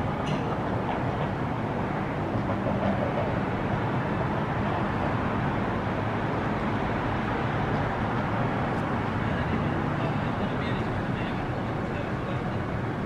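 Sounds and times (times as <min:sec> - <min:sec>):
city traffic hum and rumble: 0:00.0 - 0:13.0.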